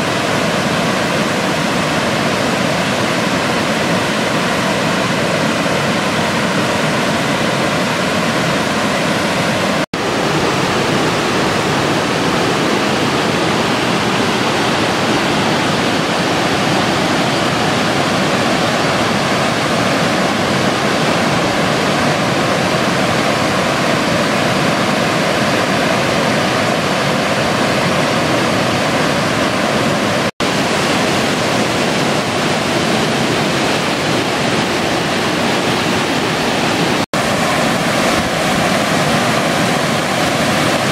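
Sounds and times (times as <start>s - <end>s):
waterfall rushing over rock: 0.0s - 40.9s.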